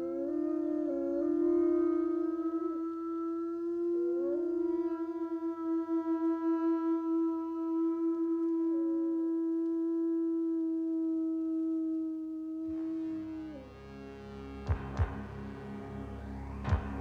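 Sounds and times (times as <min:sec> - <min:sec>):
wolf howling: 0:00.0 - 0:14.0.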